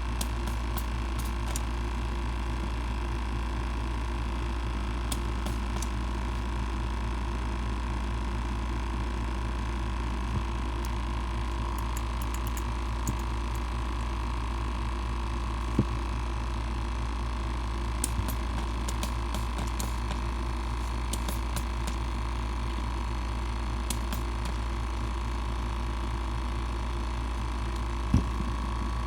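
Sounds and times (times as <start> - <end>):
air pump running: 0.0 - 29.0.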